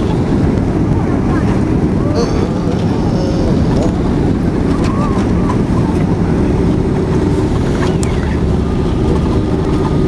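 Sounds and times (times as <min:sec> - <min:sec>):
jet engine rumble in cabin: 0:00.0 - 0:10.0
steady low hum: 0:00.0 - 0:10.0.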